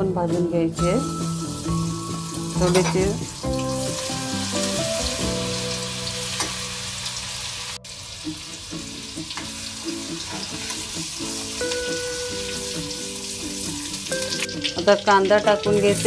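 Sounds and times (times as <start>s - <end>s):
garlic sizzling in hot oil: 1.0s - 16.0s.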